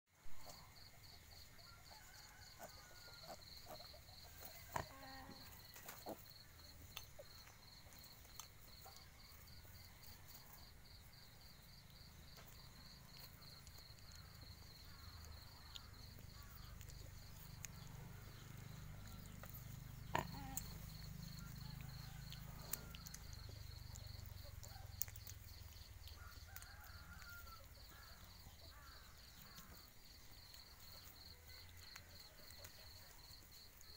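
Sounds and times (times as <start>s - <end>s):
insect chirping trill: 0.4s - 33.9s.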